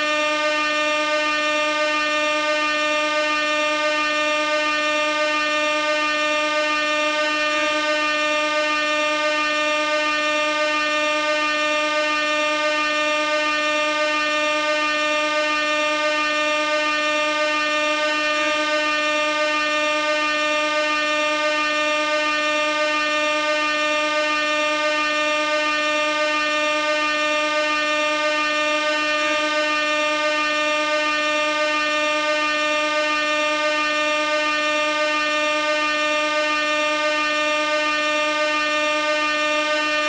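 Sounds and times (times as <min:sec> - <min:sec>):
air horn blaring: 0:00.0 - 0:40.0.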